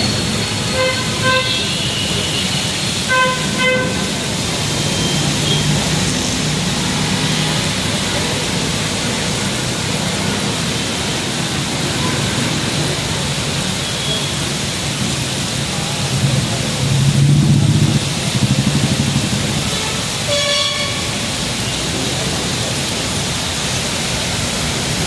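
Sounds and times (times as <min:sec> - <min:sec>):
vehicle engine: 0:00.0 - 0:13.8, 0:14.6 - 0:25.0
heavy rain hissing: 0:00.0 - 0:25.0
low road traffic rumble: 0:00.0 - 0:25.0.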